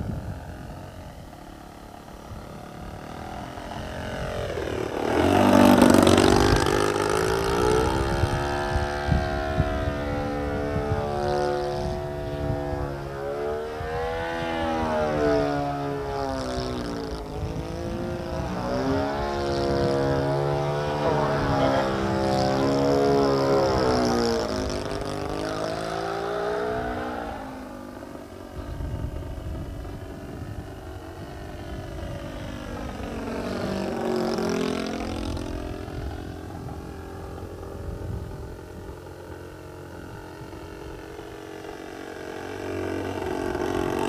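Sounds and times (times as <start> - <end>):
model plane propeller and motor: 0.0 - 44.0.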